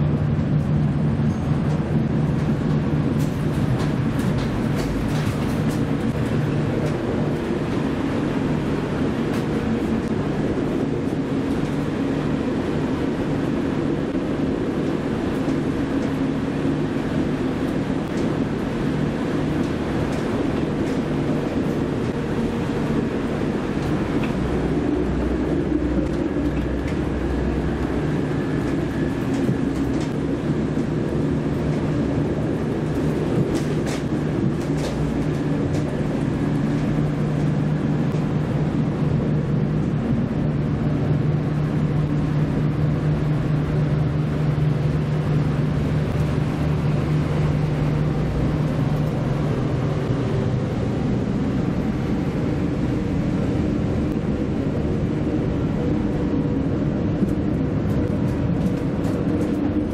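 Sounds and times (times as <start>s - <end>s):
diesel train engine drone: 0.0s - 59.9s
wheels rumbling on rails: 0.0s - 59.9s.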